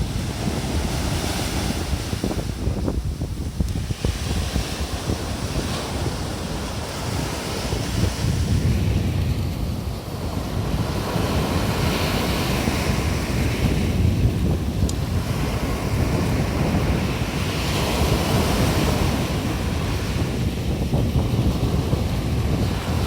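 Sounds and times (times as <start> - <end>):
sea waves breaking on shore: 0.0 - 23.0
wind buffeting microphone: 0.0 - 23.0.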